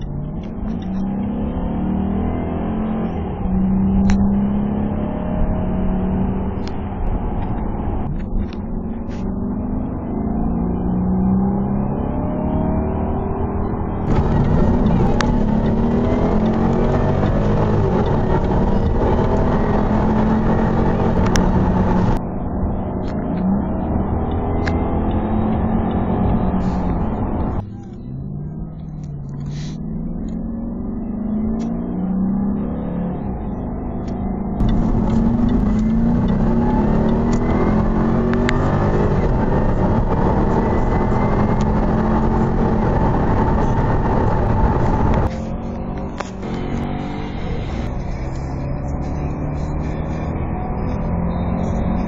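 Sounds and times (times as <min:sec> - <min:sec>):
car exhaust accelerating hard: 0:00.0 - 0:30.6, 0:31.2 - 0:52.0.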